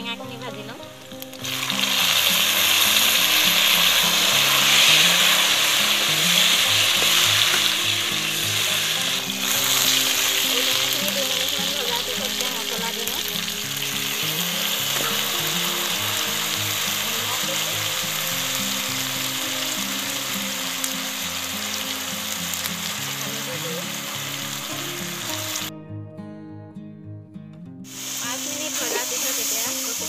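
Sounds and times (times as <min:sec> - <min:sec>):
hot oil sizzling: 0:00.0 - 0:25.7, 0:27.9 - 0:30.0
background music: 0:00.0 - 0:30.0.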